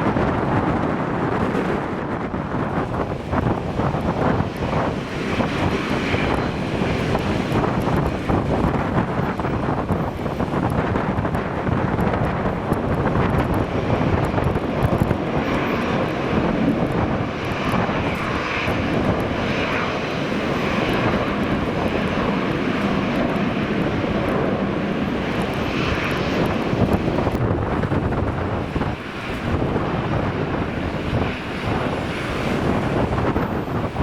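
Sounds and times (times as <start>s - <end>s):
airliner engines roaring: 0.0s - 34.0s
wind buffeting microphone: 0.0s - 34.0s.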